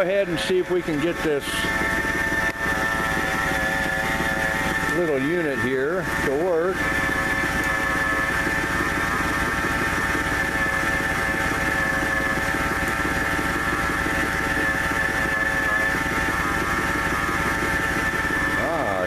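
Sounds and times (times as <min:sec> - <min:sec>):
high-pitched accessory whine: 0:00.0 - 0:19.0.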